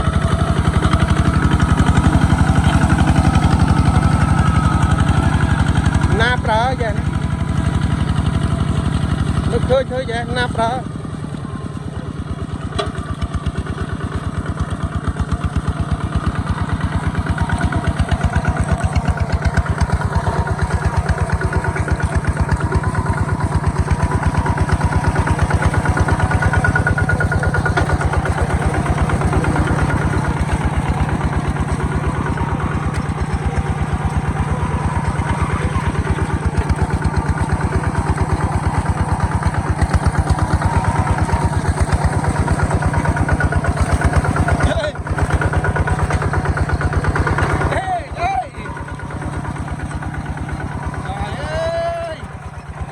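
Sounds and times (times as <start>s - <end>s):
diesel tractor engine running: 0.0s - 52.9s.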